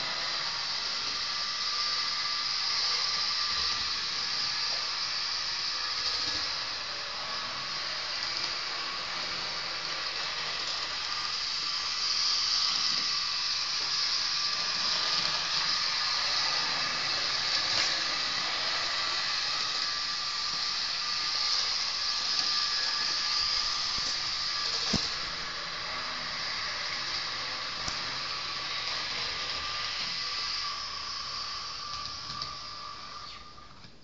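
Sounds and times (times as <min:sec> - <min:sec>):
model train whirring on track: 0:00.0 - 0:33.9.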